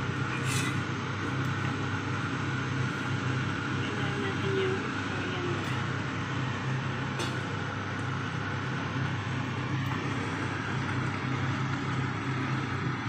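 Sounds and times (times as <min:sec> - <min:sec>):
exhaust fan humming: 0:00.0 - 0:13.0.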